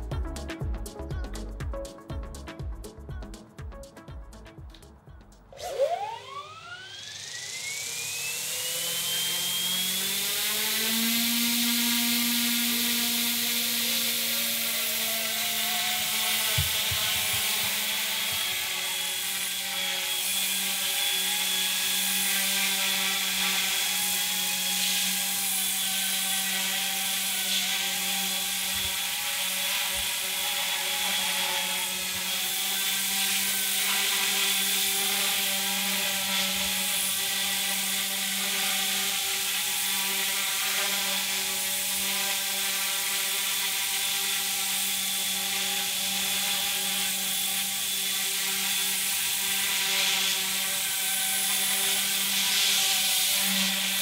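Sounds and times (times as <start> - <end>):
high motor whine: 5.5 - 54.0
rc helicopter rotor buzz: 5.5 - 54.0.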